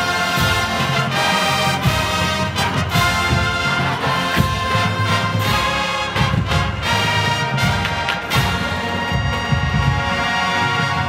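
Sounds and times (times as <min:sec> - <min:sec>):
brass chords: 0:00.0 - 0:11.0
marching band playing: 0:00.0 - 0:11.0.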